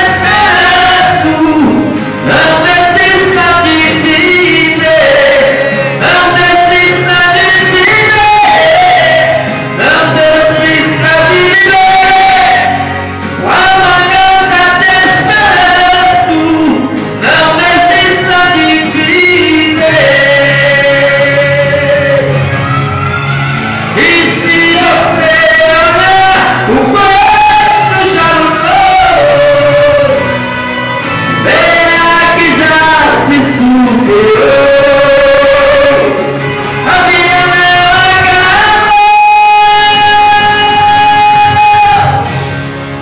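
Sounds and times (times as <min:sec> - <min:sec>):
instrumental accompaniment: 0:00.0 - 0:43.0
man singing gospel song: 0:00.0 - 0:43.0.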